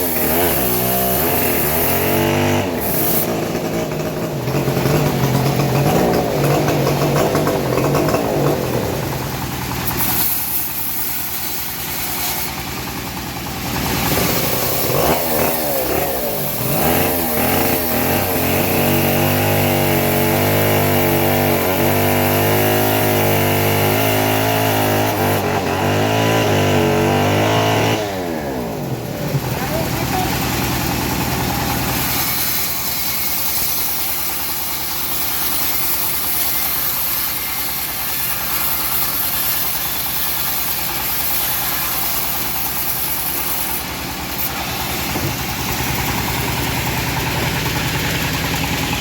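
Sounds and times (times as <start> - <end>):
sawmill engine running: 0.0 - 49.0.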